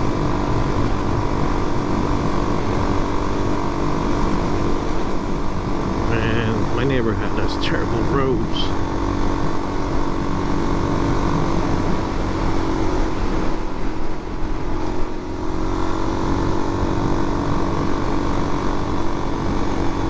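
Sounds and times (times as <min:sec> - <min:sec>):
motorcycle engine cruising: 0:00.0 - 0:20.0
wind and road noise: 0:00.0 - 0:20.0.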